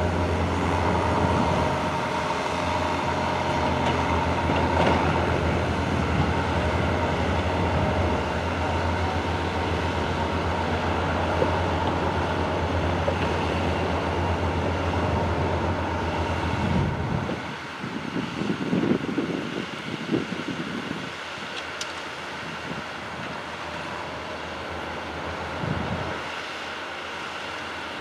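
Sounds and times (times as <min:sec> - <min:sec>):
wind noise: 0:00.0 - 0:24.0, 0:25.3 - 0:26.3
train mechanical drone: 0:00.0 - 0:28.0.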